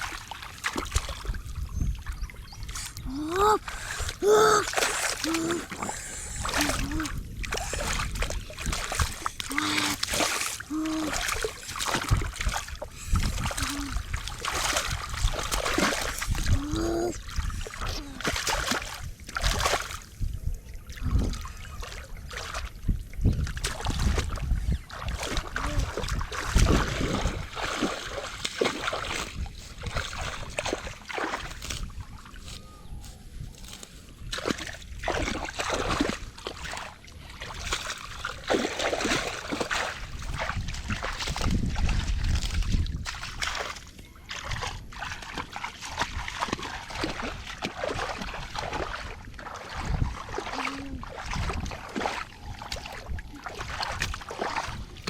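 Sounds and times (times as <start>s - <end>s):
water splashing and sloshing: 0.0s - 55.0s.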